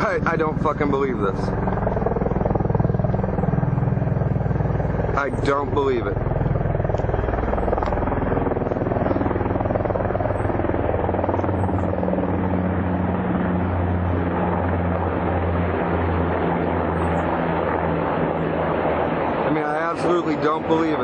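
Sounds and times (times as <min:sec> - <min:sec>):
helicopter engine and rotor chop: 0:00.0 - 0:21.0.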